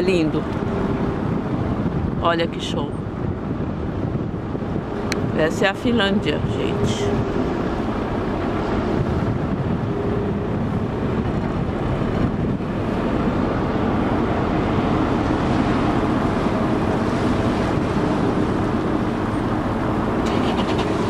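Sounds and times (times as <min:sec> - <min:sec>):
boat engine running: 0:00.0 - 0:21.0
water rushing past hull: 0:00.0 - 0:21.0
wind buffeting microphone: 0:00.0 - 0:21.0.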